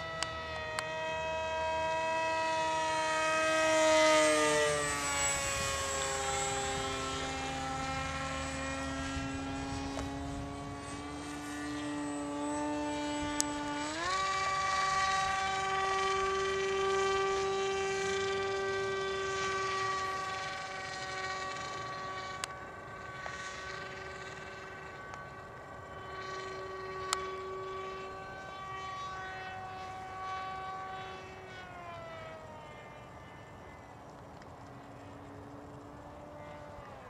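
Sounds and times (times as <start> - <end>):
model airplane motor droning: 0.0 - 37.0.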